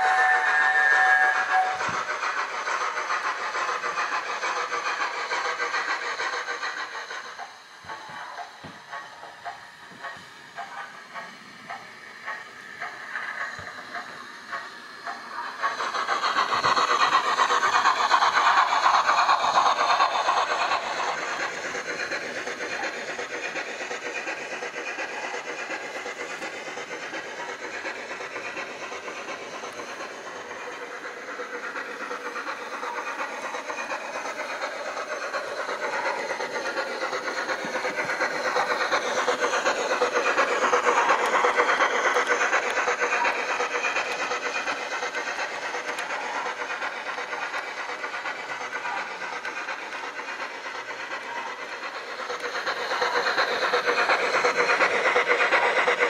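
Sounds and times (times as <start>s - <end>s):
model train wheels on track: 0.0s - 56.0s
steam locomotive sounds from speaker: 0.0s - 56.0s.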